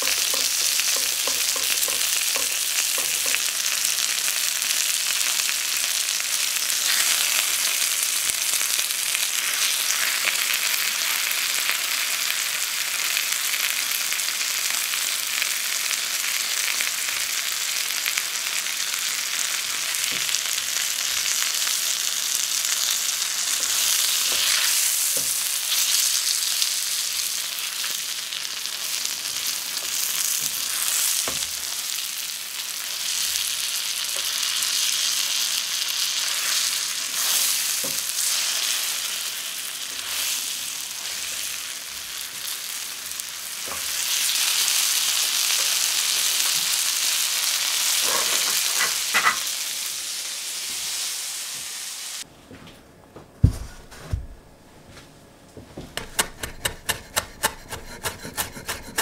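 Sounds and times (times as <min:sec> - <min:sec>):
chicken sizzling in butter: 0:00.0 - 0:52.3.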